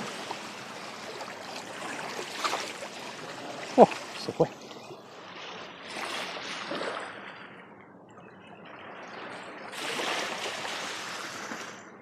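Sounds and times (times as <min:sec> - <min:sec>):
water trickling and lapping: 0:00.0 - 0:12.0.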